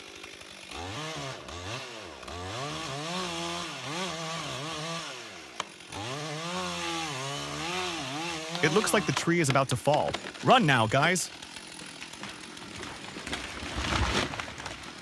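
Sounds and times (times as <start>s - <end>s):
chainsaw cutting tree trunk: 0.0s - 15.0s.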